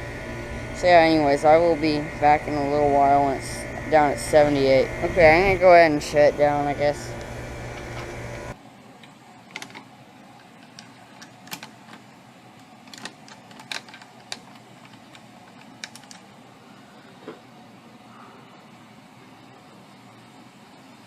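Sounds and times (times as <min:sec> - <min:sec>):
air conditioner hum: 0:00.0 - 0:21.0.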